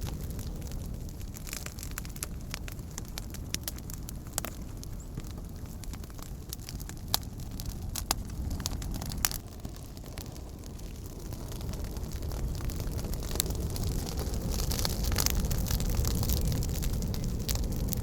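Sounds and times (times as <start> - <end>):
campfire crackling: 0.0 - 18.0
sharp fire pops: 0.0 - 18.0
steady low rumble: 0.0 - 18.0.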